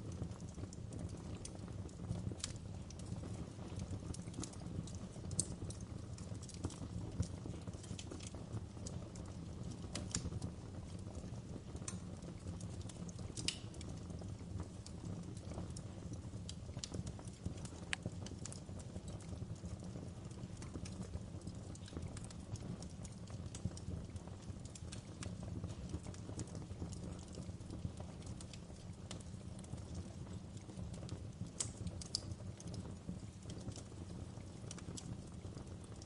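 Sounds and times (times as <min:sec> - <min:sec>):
burning wood rumble: 0:00.0 - 0:36.0
fire crackling: 0:00.0 - 0:36.0
fire popping: 0:00.0 - 0:36.0.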